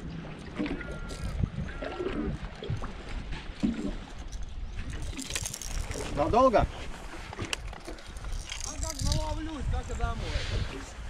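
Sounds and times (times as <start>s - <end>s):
wind and water against hull: 0.0s - 11.0s.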